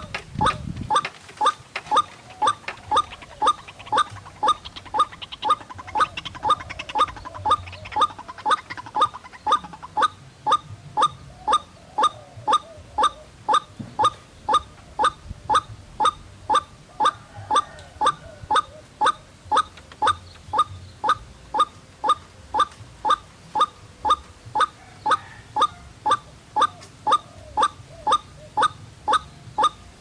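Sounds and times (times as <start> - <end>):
fainter wavering bird calls: 0.0 - 29.8.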